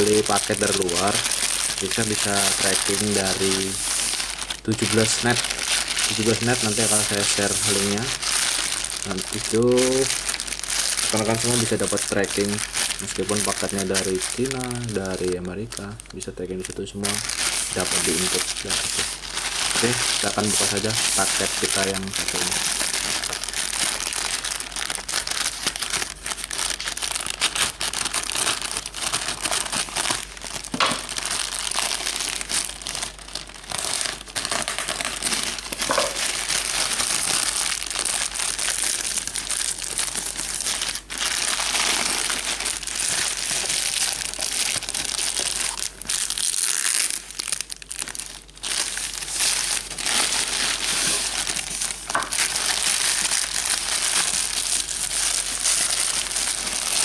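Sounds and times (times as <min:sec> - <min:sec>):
packaging crinkling and rustling: 0:00.0 - 0:57.0
packaging torn open: 0:00.0 - 0:57.0.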